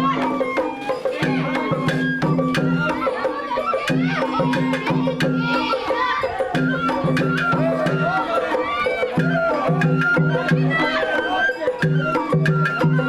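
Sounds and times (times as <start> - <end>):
drum strikes: 0.0 - 10.8
high pitch-bending melody: 0.0 - 13.0.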